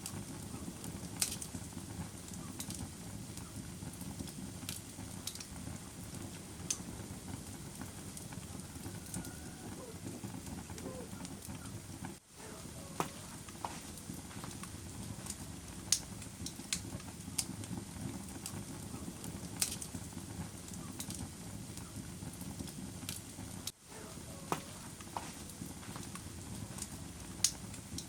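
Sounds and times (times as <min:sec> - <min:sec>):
wood fire burning: 0:00.0 - 0:28.0.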